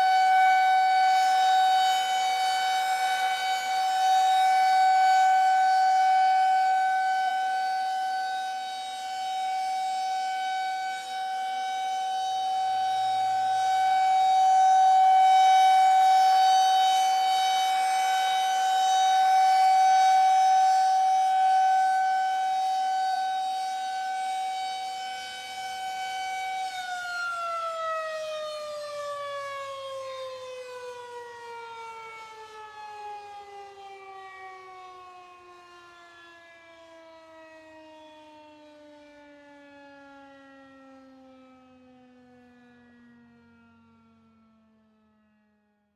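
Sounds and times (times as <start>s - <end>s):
siren steady high tone: 0.0s - 45.9s.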